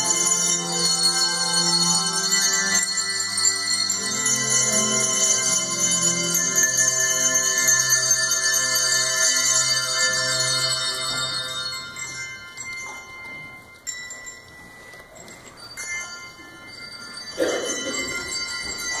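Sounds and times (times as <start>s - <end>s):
hand bells ringing: 0.0s - 19.0s.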